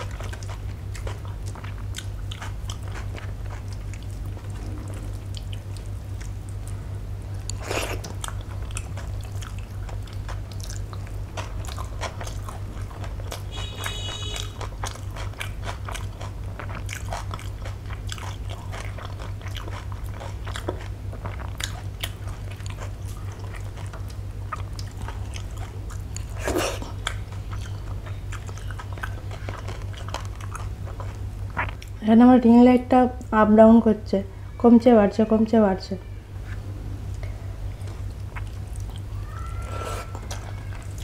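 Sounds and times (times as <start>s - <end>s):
chewing and lip smacking: 0.0s - 6.8s, 7.4s - 32.0s, 36.4s - 41.0s
steady low hum: 0.0s - 41.0s.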